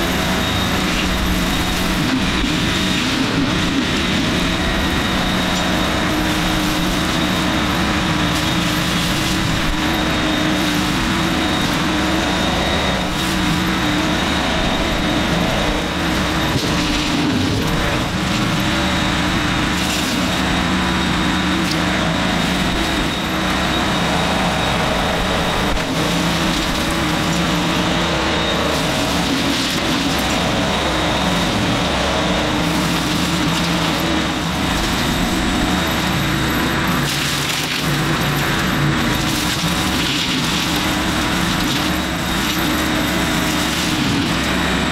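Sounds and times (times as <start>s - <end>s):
tractor diesel engine under load: 0.0s - 44.9s.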